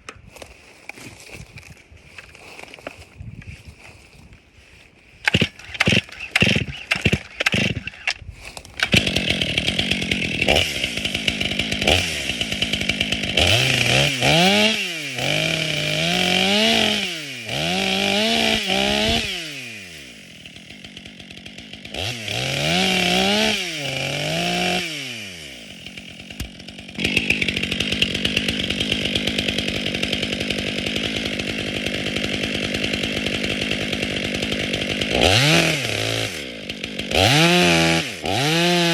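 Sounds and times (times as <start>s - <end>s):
chainsaw starting and revving: 5.2s - 38.9s.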